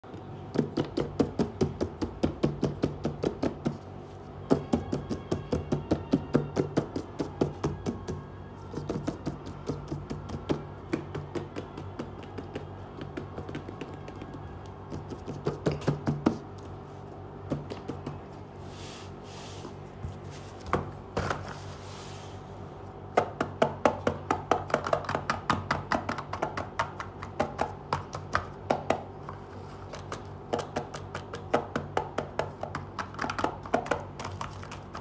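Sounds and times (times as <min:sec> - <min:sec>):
fingers tapping on cardboard: 0:00.1 - 0:03.8, 0:04.4 - 0:16.6, 0:17.5 - 0:18.2, 0:23.1 - 0:35.0.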